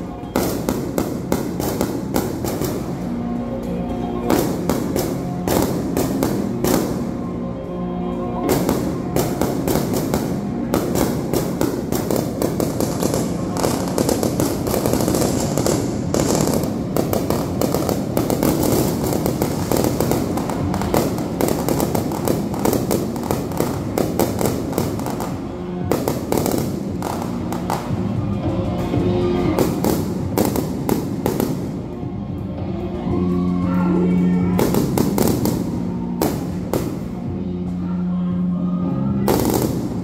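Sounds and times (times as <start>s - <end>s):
fireworks bursting: 0.0s - 7.6s, 8.4s - 28.2s, 29.2s - 32.0s, 34.4s - 37.8s, 39.2s - 40.0s
music playing: 0.0s - 40.0s.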